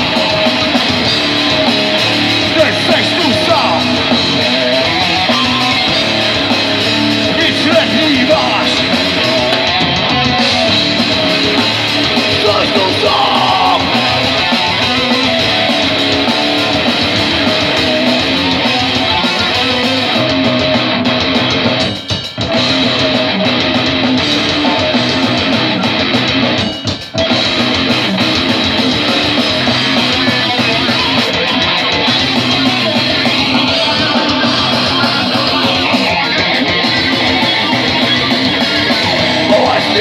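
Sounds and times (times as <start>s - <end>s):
heavy metal band playing: 0.0s - 40.0s.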